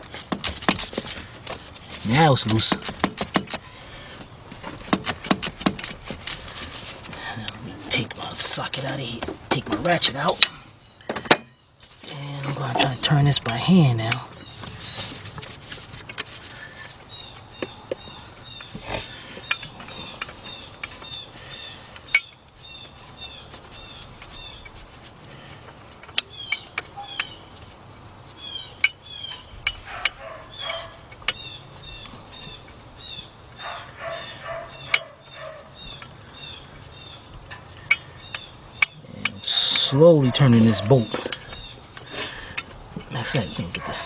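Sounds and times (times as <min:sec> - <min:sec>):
bird chirping: 0:04.9 - 0:15.4, 0:16.5 - 0:44.0.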